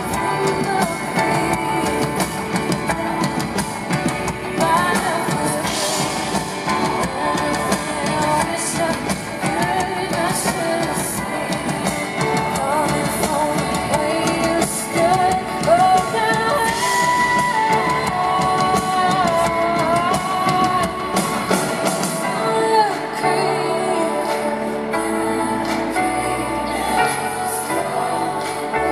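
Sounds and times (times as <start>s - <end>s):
drum kit: 0.0s - 28.9s
electric guitar: 0.0s - 28.9s
woman singing into microphone: 0.0s - 28.9s.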